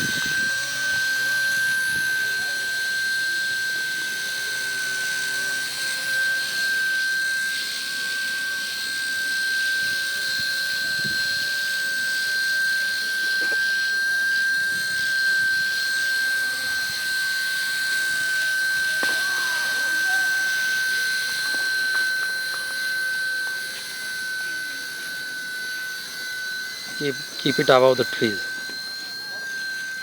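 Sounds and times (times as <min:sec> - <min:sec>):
rc helicopter motor whine: 0:00.0 - 0:30.0.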